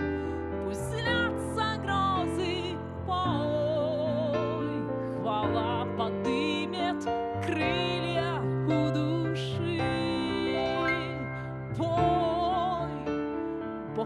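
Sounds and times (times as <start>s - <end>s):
woman singing into microphone: 0.0s - 13.2s.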